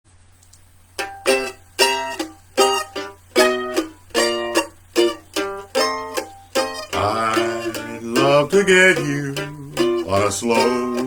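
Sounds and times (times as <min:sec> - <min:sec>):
faint low hum: 0:00.1 - 0:11.0
ukulele strumming chords: 0:00.9 - 0:11.0.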